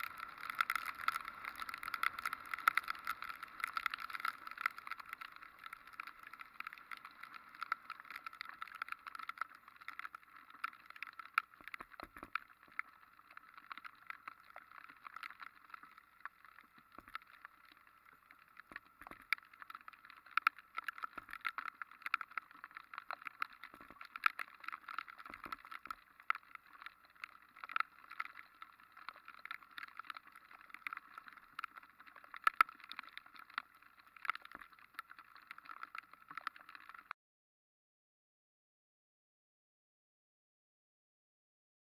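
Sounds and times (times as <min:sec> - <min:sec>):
small irregular taps and clicks: 0:00.0 - 0:37.2.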